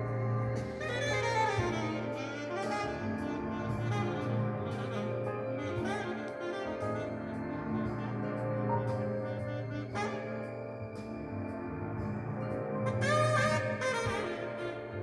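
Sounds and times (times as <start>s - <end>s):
saxophone melody: 0.0s - 15.0s.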